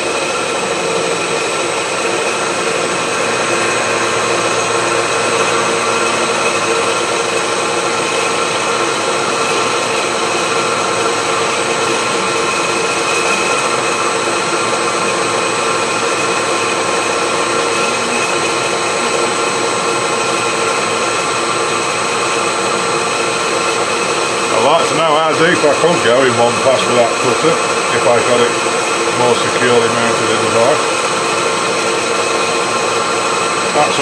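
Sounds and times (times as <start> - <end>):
milling machine motor whine: 0.0 - 34.0.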